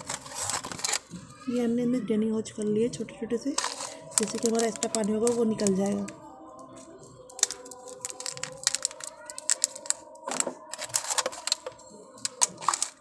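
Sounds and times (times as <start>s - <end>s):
plastic cups crackling: 0.0s - 1.5s, 3.4s - 13.0s.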